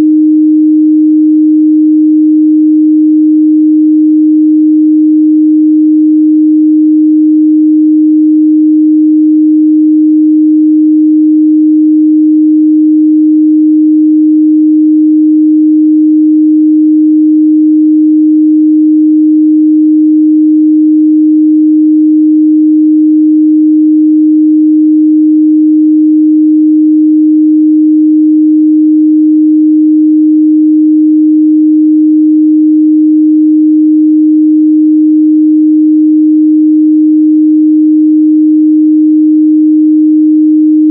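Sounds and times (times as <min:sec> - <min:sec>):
sine test tone: 0:00.0 - 0:40.9.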